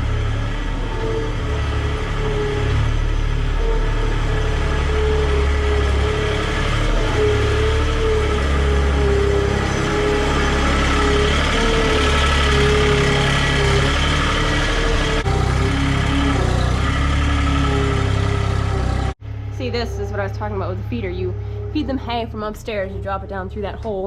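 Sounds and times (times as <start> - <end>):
engine rumbling: 0.0 - 24.0
wavering whine: 0.0 - 24.0.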